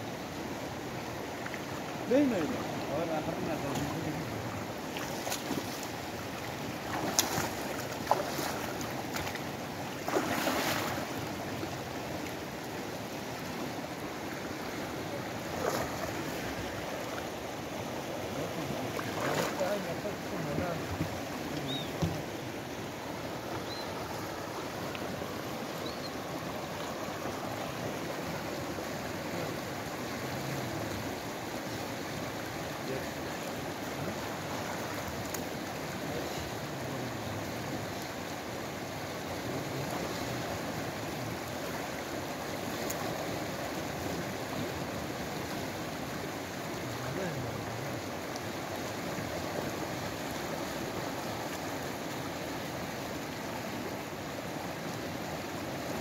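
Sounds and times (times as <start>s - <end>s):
fast-flowing river: 0.0s - 56.0s.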